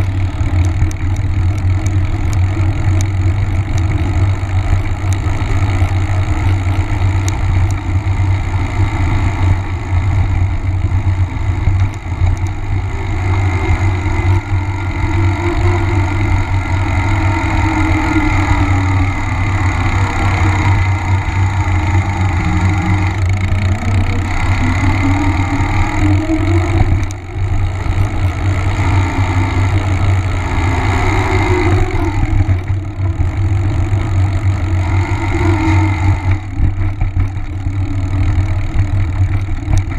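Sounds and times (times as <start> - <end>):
hum changing pitch: 0.0 - 39.9
knobby tyre rolling: 0.0 - 39.9
wind rumble on microphone: 0.0 - 39.9.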